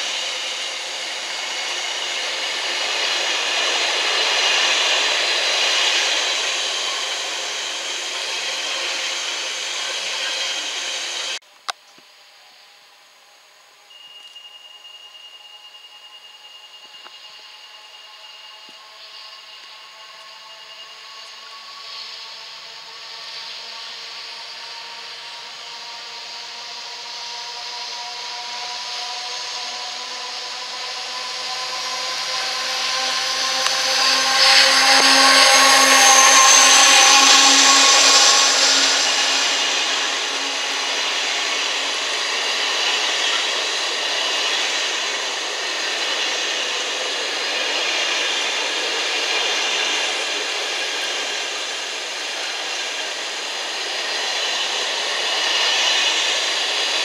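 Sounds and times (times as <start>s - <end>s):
diesel locomotive engine whining: 0.0s - 57.0s.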